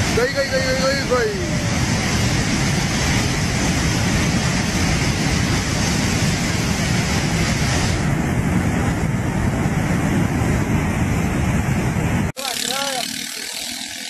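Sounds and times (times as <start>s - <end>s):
flood torrent rushing: 0.0s - 14.0s.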